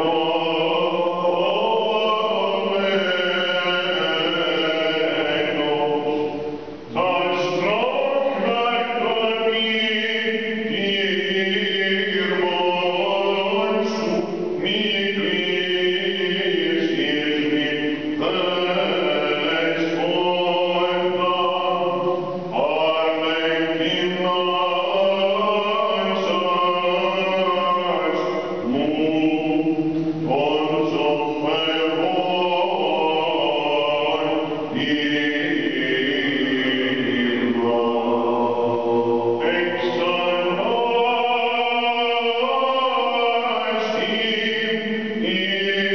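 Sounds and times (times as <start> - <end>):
man chanting a hymn: 0.0 - 45.9.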